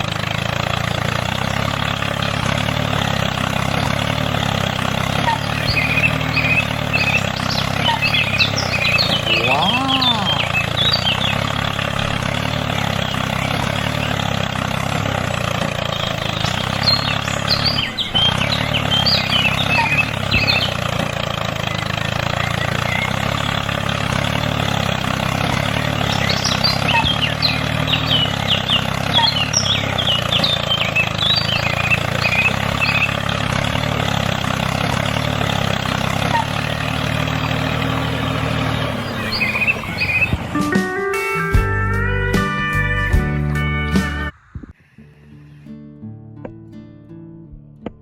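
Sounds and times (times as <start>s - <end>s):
birds chirping: 0.0s - 40.8s
low engine drone: 0.0s - 45.4s.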